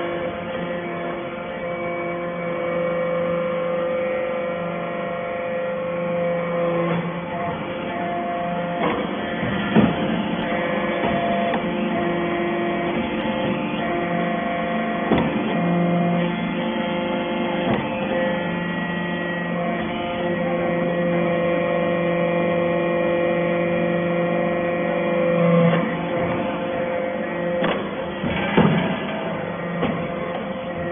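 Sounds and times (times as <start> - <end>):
baler machine hum: 0.0 - 30.9.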